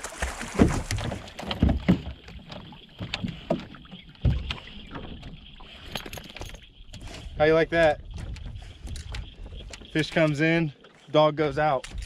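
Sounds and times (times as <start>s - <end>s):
water splashes: 0.0s - 12.0s
knocks and bumps on boat: 0.1s - 10.6s.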